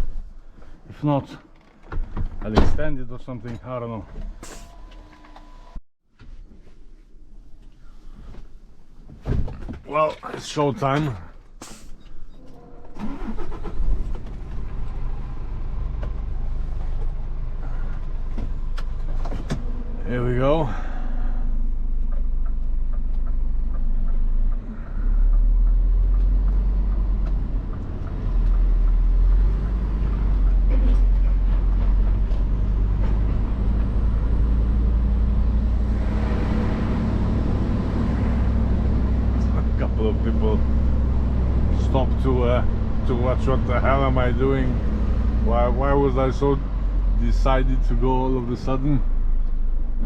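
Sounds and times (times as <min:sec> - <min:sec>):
lorry engine rumbling: 0:07.4 - 0:50.0.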